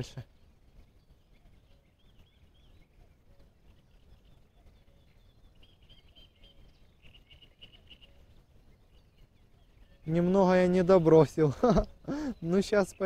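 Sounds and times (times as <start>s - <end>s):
faint distant birdsong: 0.0s - 13.0s.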